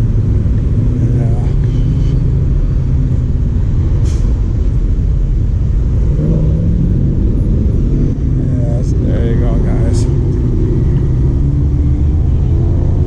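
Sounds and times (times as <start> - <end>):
car engines passing: 0.0 - 13.0.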